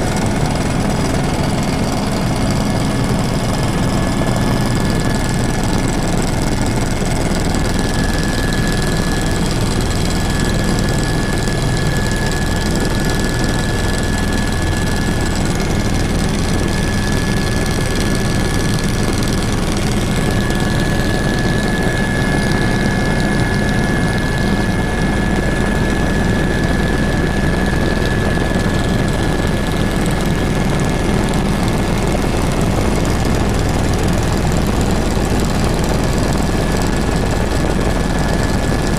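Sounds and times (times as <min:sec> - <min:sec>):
helicopter engine and rotor noise: 0:00.0 - 0:38.9.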